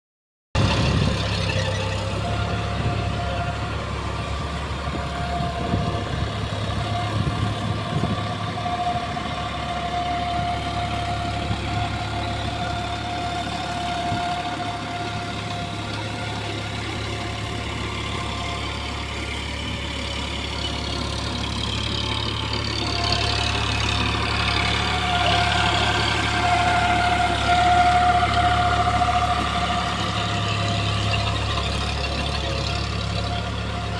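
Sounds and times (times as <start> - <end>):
higher tones sliding downward: 0.6 - 33.9
tractor diesel engine running: 0.6 - 33.9.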